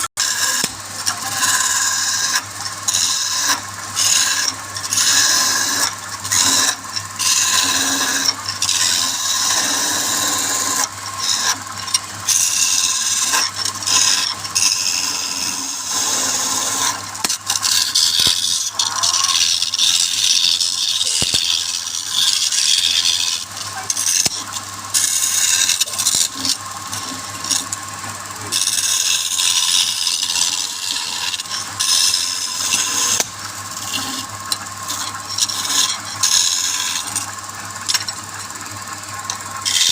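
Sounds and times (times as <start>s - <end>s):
lathe low hum: 0.0s - 39.9s
turning tool scraping wood: 0.0s - 39.9s.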